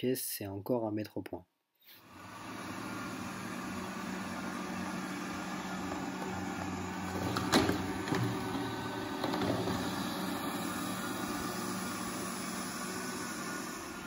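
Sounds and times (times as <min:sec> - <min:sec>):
robot vacuum humming: 0:02.0 - 0:14.0.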